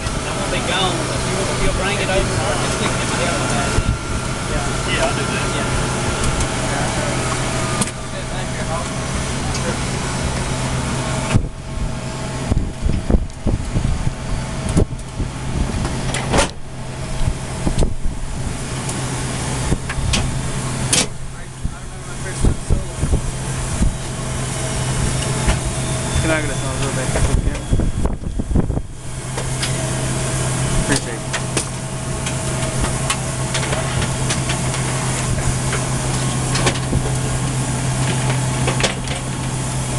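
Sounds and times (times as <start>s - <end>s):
engine and air rushing hiss: 0.0s - 39.9s
low hum: 0.0s - 39.9s.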